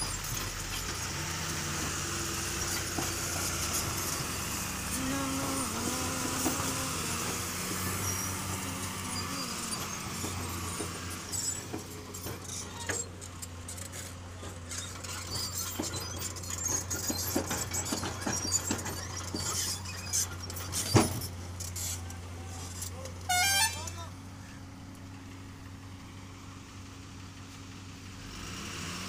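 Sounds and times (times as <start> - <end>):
heavy diesel engines idling: 0.0 - 28.3.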